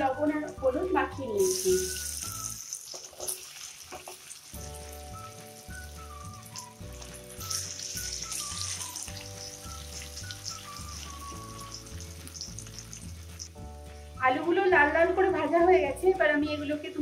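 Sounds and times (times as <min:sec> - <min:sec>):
potatoes sizzling in hot oil: 0:00.0 - 0:15.2
background music: 0:00.0 - 0:17.0.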